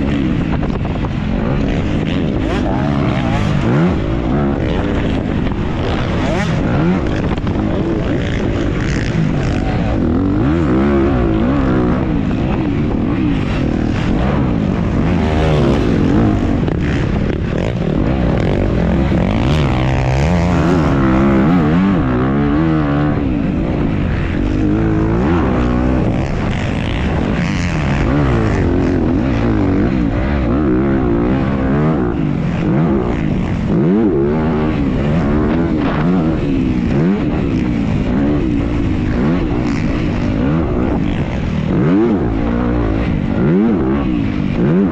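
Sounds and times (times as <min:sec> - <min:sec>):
dirt bike engine revving: 0:00.0 - 0:44.9
steady rushing noise: 0:00.0 - 0:44.9.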